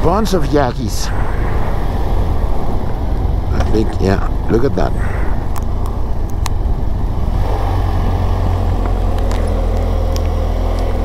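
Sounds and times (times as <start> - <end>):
motorcycle engine droning: 0.0 - 11.0
rushing wind and road noise: 0.0 - 11.0.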